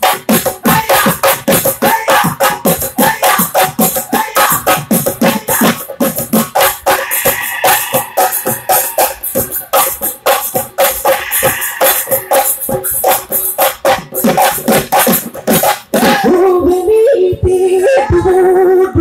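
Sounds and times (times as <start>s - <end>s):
drums in a fast rhythm: 0.0s - 19.0s.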